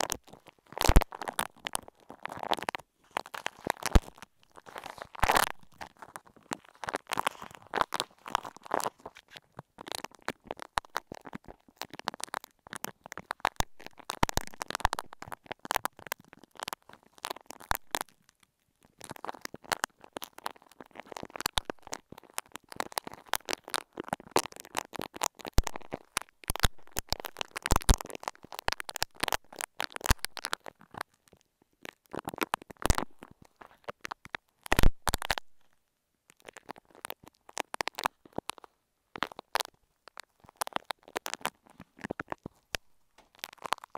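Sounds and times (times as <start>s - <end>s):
clay squeezed crackling clicks: 0.0s - 43.9s.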